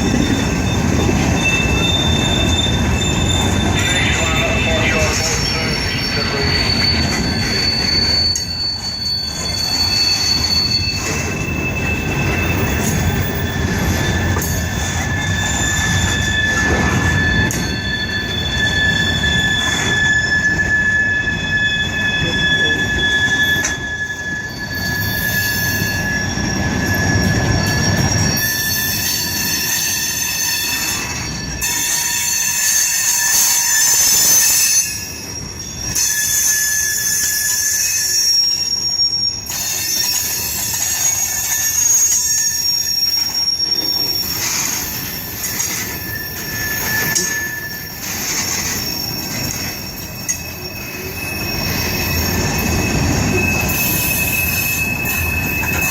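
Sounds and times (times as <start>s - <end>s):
high wheel squeals: 0.0s - 55.9s
train wheels rumbling on rail: 0.0s - 55.9s.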